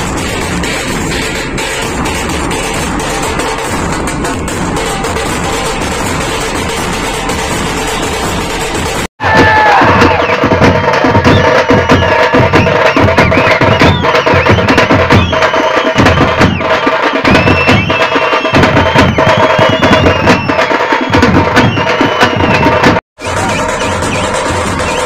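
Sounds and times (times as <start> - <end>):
frame drums beaten with sticks: 0.0 - 25.0
crowd cheering: 4.6 - 25.0.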